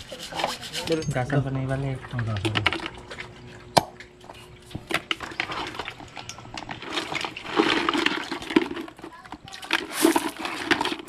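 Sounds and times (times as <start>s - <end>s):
crab shells clattering in bucket: 1.2s - 3.8s, 4.4s - 11.0s.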